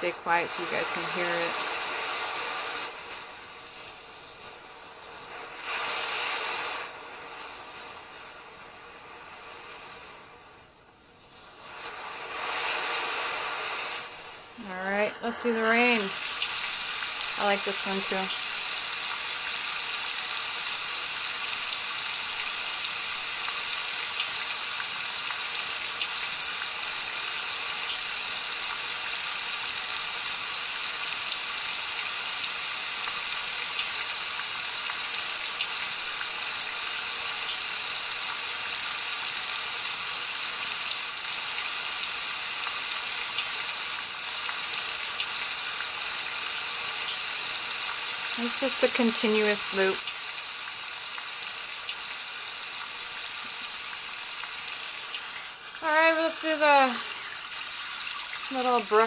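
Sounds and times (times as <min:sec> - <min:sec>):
rain sound from small speaker: 0:00.0 - 0:59.0.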